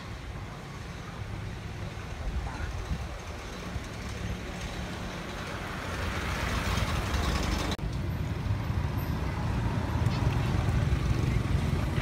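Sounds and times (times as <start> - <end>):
passing vehicle tyre noise: 0.0 - 12.0.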